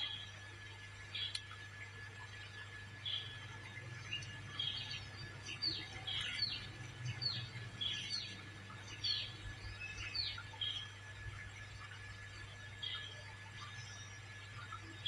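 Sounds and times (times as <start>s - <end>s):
low steady hum: 0.0s - 15.0s
birds chirping: 1.1s - 1.6s, 3.0s - 15.0s.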